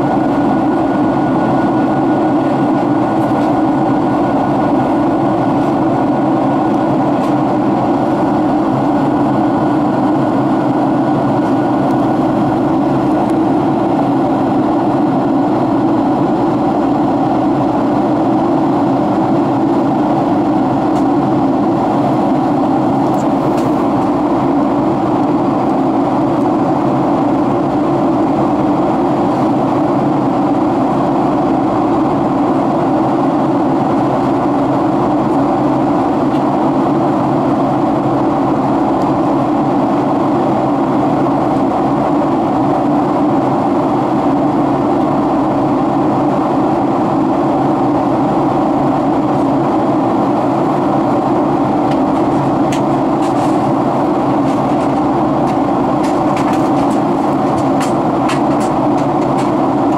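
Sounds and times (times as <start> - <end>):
airflow over fuselage: 0.0 - 59.9
jet engine drone in cabin: 0.0 - 59.9.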